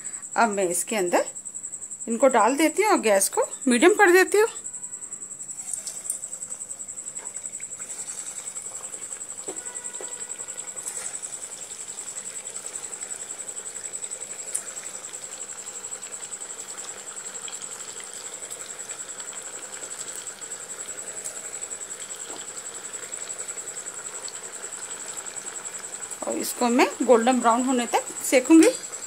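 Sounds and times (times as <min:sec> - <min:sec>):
oil sizzling and crackling: 0:05.5 - 0:29.0.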